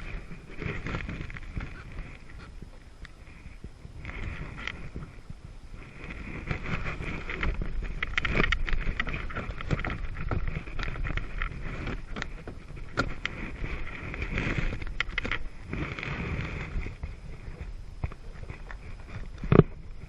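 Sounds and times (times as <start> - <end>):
jet ski engine rumble: 0.0 - 20.0.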